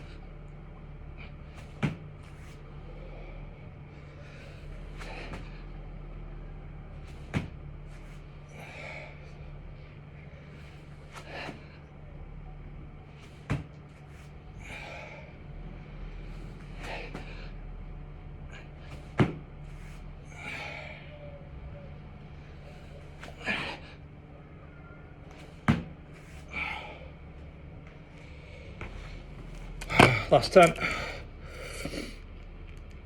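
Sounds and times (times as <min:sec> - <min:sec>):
man breathing hard: 0:00.0 - 0:32.6.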